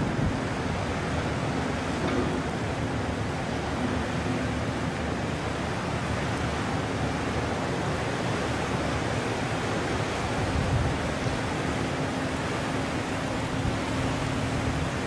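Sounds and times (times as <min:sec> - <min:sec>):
churned water rushing: 0:00.0 - 0:15.0.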